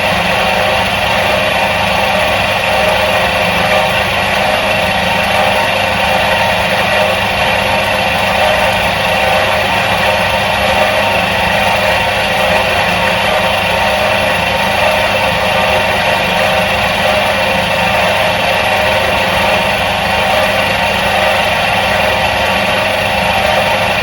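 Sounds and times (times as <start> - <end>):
washing machine motor running: 0.0 - 24.0.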